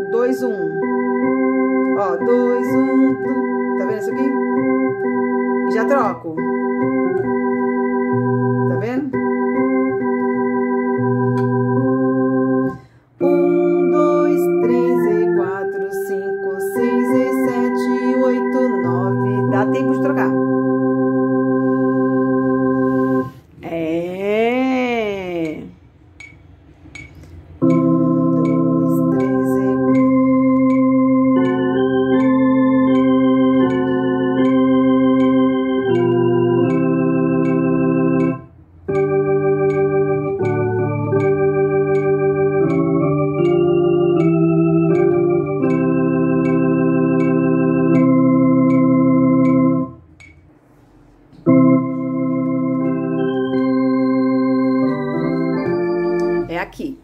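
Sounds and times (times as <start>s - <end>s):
electronic organ playing chords: 0.0s - 23.6s, 26.2s - 57.0s.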